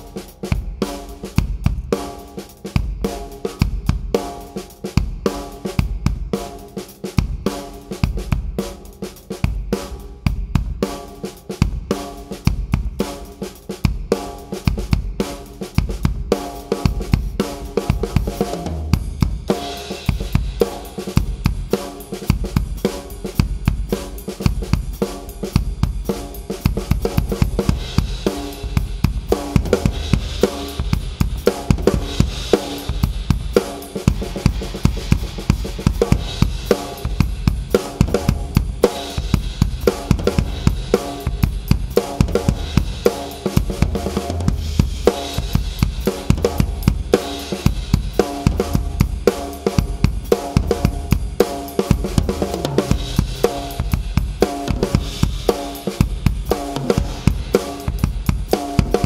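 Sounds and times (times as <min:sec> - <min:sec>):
drum kit playing a groove: 0:00.0 - 0:59.0.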